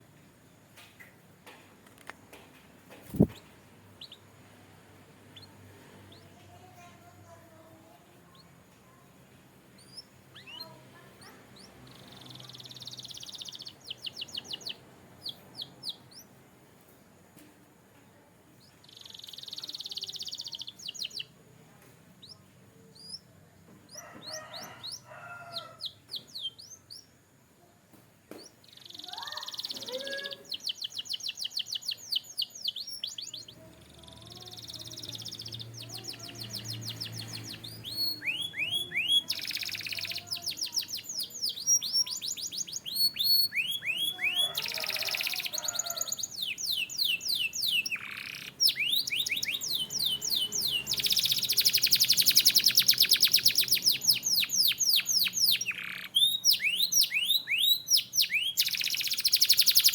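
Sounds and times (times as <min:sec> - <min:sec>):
canary singing: 0:03.0 - 0:04.5, 0:05.2 - 0:09.0, 0:09.6 - 0:16.4, 0:18.6 - 0:21.4, 0:22.2 - 0:27.3, 0:28.4 - 0:59.9.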